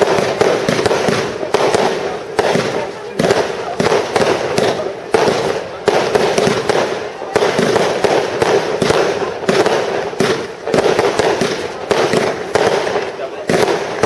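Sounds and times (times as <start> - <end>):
fireworks banging and crackling: 0.0 - 14.0.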